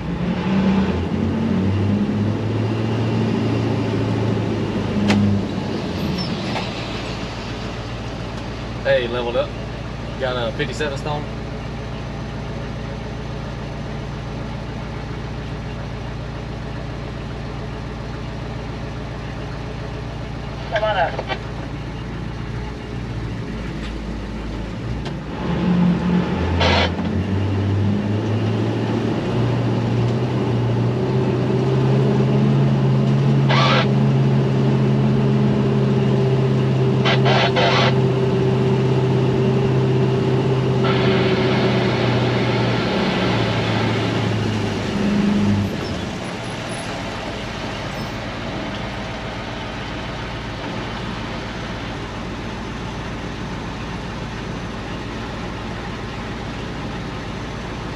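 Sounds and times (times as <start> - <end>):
diesel engine revving: 0.0 - 57.9.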